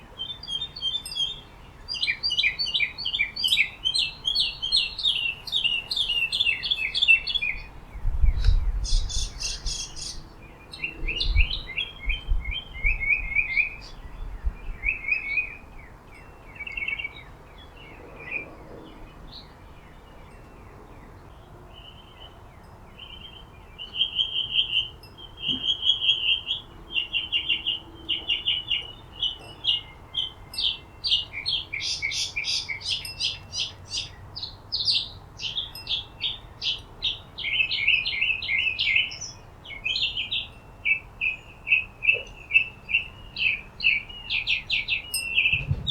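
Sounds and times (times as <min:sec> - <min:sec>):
songbirds chirping and singing: 0:00.0 - 0:45.9.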